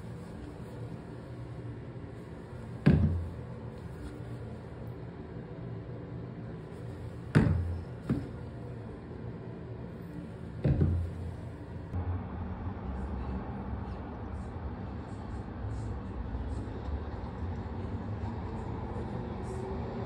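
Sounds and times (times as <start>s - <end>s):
city traffic hum: 0.0s - 20.0s.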